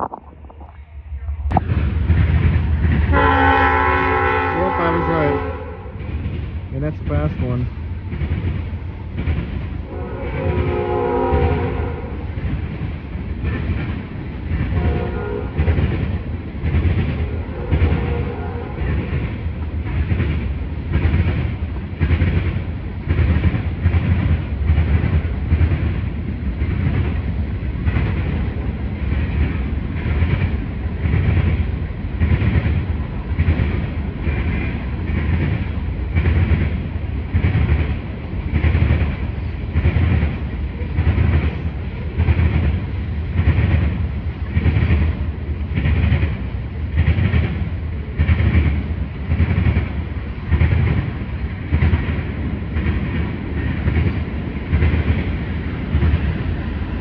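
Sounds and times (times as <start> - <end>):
freight train wheels clattering: 5.9 - 57.0.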